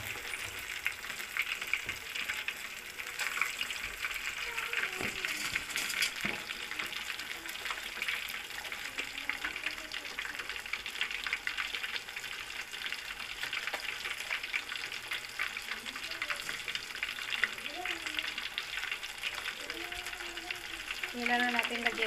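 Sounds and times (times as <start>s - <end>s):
chicken deep-frying in hot oil: 0.0s - 22.0s.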